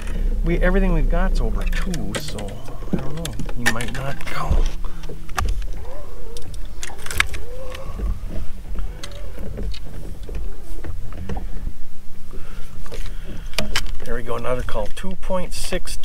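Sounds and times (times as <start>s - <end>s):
low rumble: 0.0s - 14.3s
handling clicks and knocks: 1.6s - 15.1s.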